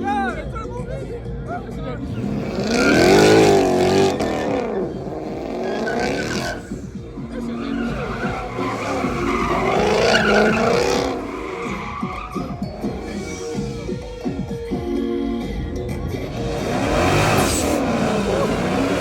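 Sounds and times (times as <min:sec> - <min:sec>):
tyres squealing and skidding: 0:01.7 - 0:14.8, 0:15.8 - 0:19.0
car engine revving hard: 0:02.0 - 0:14.5, 0:15.7 - 0:19.0.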